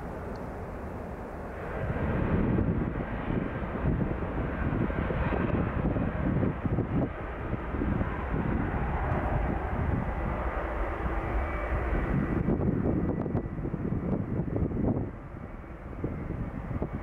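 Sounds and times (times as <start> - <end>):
jet engines deep rumble: 0.0 - 17.0.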